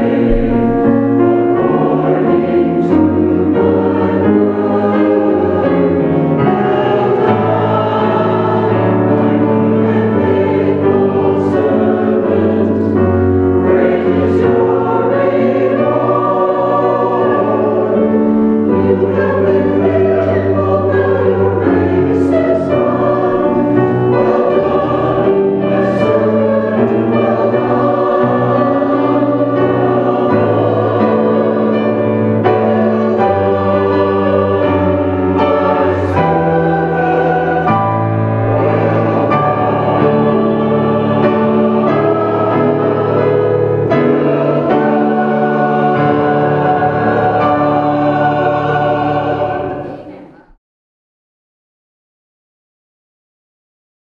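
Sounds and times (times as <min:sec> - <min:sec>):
choir singing in parts: 0:00.0 - 0:50.6.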